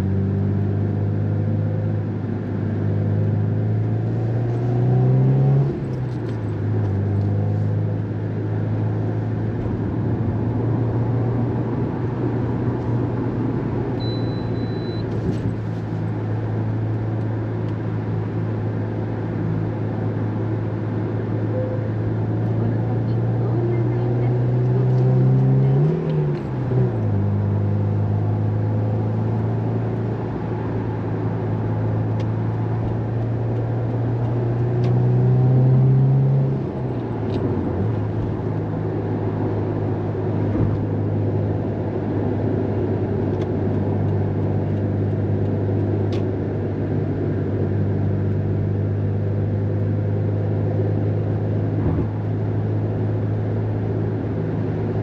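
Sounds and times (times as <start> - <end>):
car engine drone in cabin: 0.0 - 55.0
road noise: 0.0 - 55.0.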